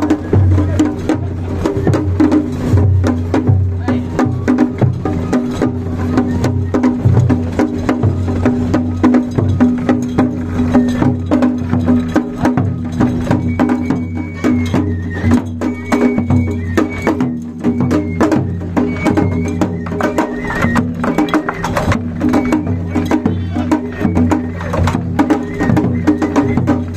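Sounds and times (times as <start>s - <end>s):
large drum and percussion beat: 0.0s - 26.9s
high piped notes: 3.8s - 26.9s.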